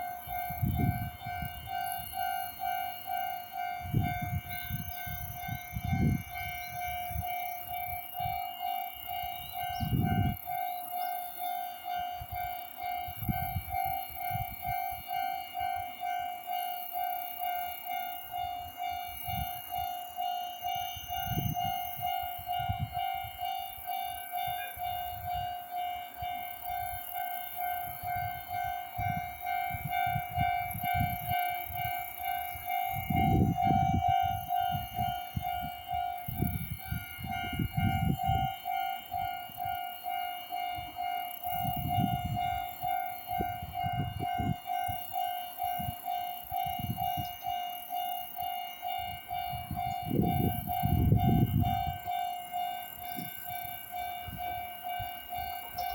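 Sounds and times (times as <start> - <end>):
level-crossing warning bell: 0.0 - 55.9.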